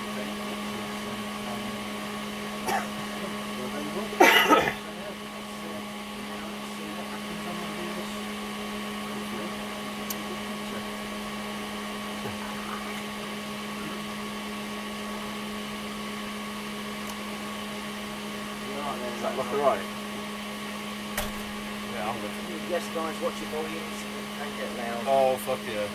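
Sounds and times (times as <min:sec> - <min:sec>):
electrical equipment hum: 0:00.0 - 0:25.9.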